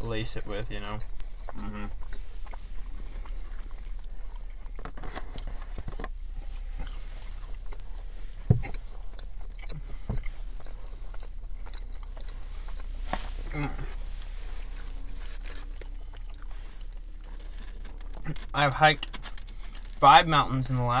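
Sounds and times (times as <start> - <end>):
chewing and eating noises: 0.0 - 21.0
steady low hum: 0.0 - 21.0.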